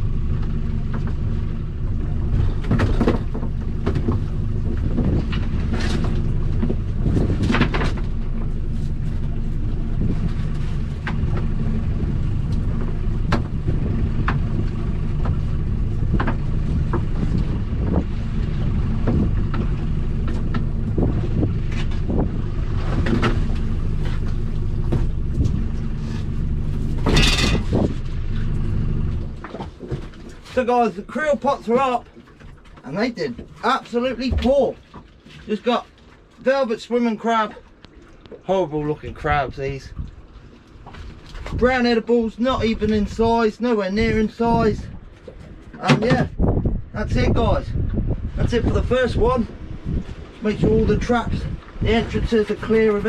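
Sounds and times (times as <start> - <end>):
knocks and clatters on boat: 0.0 - 53.0
outboard motor running: 0.0 - 53.0.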